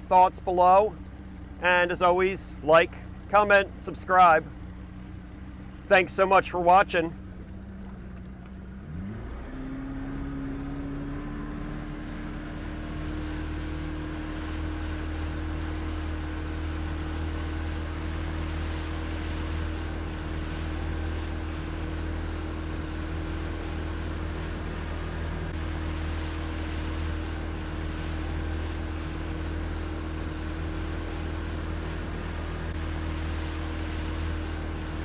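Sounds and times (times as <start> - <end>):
wind and water rushing: 0.0 - 7.8, 8.8 - 35.0
motorboat engine running: 0.0 - 35.0.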